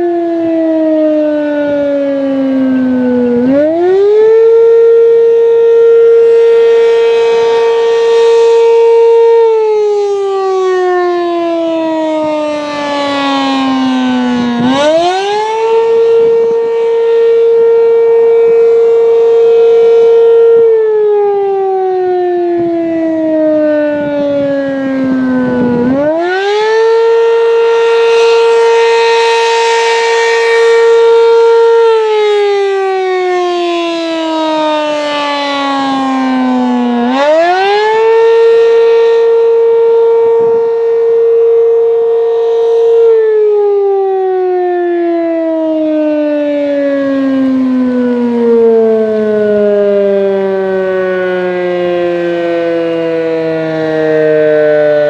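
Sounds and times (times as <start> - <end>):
warning siren wailing: 0.0 - 55.0.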